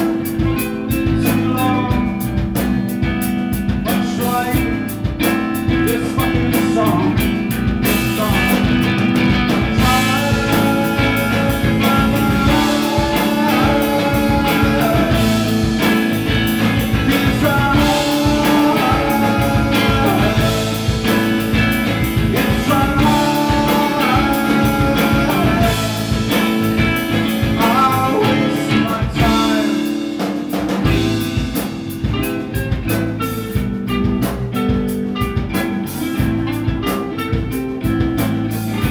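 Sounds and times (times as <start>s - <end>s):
man singing: 0.0s - 32.6s
bass guitar: 0.0s - 38.9s
drum kit: 0.0s - 38.9s
electric guitar: 0.0s - 38.9s.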